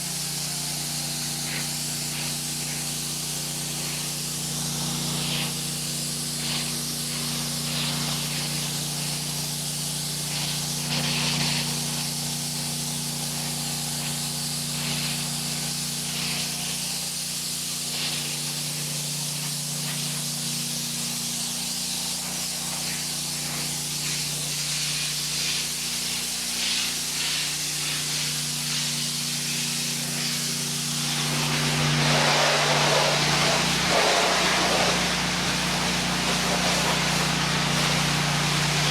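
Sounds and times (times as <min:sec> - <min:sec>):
pressure washer engine hum: 0:00.0 - 0:38.9
water spray hissing: 0:00.0 - 0:38.9.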